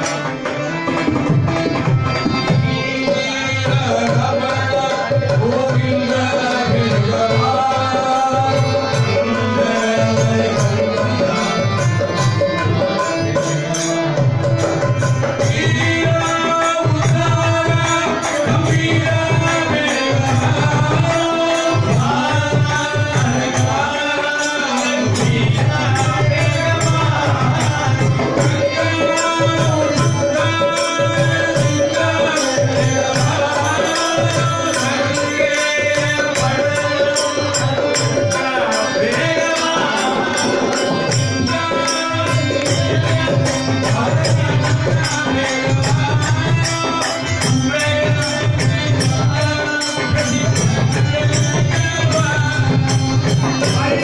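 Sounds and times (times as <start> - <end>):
devotional melody: 0.0 - 54.0.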